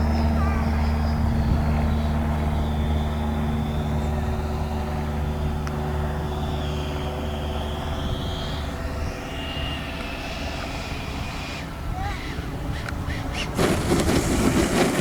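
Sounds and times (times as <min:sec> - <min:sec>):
electric ducted fan whine: 0:00.0 - 0:15.0.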